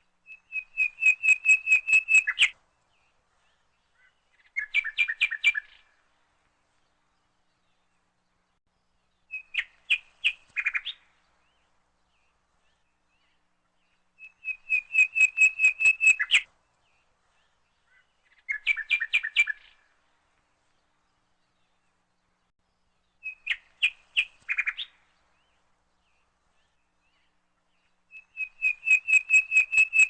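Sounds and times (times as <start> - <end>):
bird chirping: 0.3 - 5.9, 9.0 - 19.9, 20.9 - 30.0.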